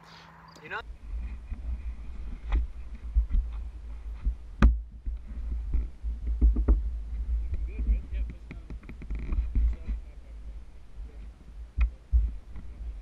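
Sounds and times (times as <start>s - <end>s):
low rumble: 0.8s - 13.0s.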